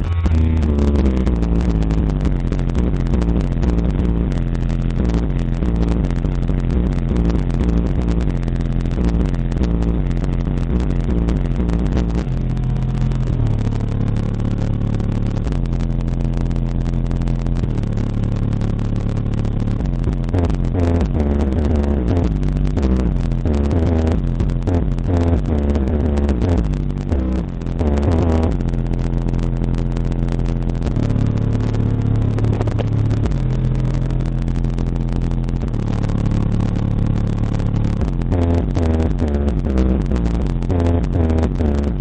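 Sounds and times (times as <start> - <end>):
speaker rattling buzz: 0.0 - 42.0
subwoofer bass notes: 0.0 - 42.0.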